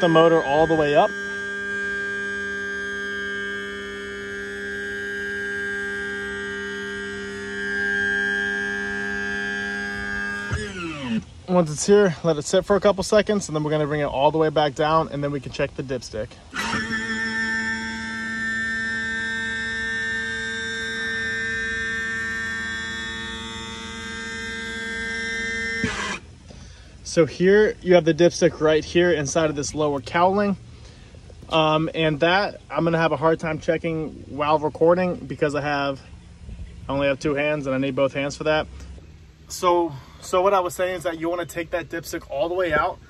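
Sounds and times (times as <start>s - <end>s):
hydraulic pump humming: 0.0s - 43.0s.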